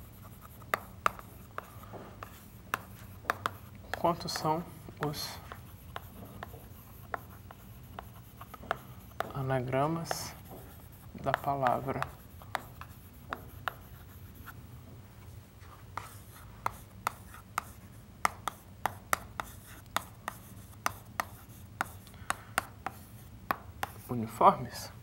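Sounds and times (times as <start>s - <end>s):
chalk scratching: 0.0s - 14.6s, 15.6s - 24.2s
chalk tapping on chalkboard: 0.0s - 14.6s, 16.0s - 24.1s.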